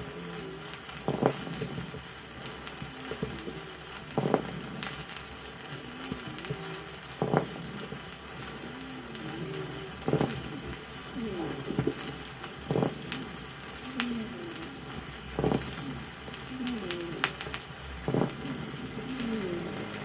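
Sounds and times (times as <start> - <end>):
moist lung crackles: 0.0 - 20.0
record surface hiss: 0.0 - 20.0.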